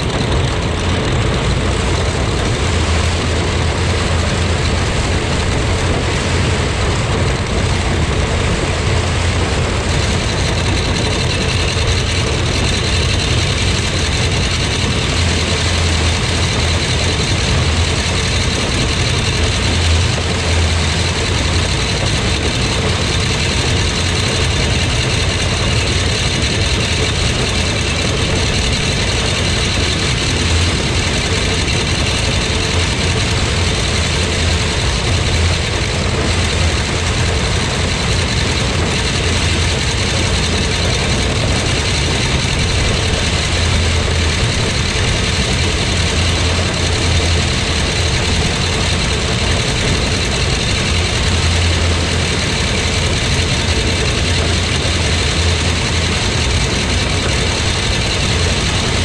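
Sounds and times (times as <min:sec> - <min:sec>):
combine machinery running: 0:00.0 - 0:59.0
tractor engine under load: 0:00.0 - 0:59.0.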